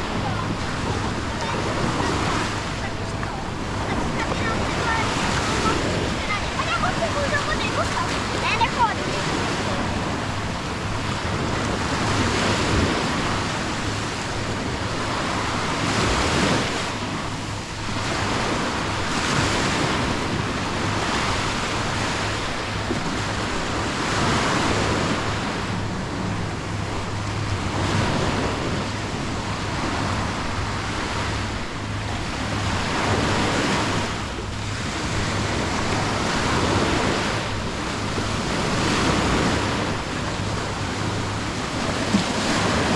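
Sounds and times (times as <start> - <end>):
small waves breaking on shore: 0.0 - 42.9.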